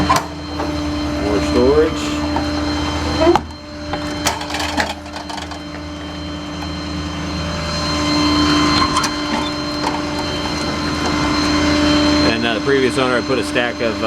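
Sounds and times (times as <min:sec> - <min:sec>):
machine hum with whine: 0:00.0 - 0:14.0.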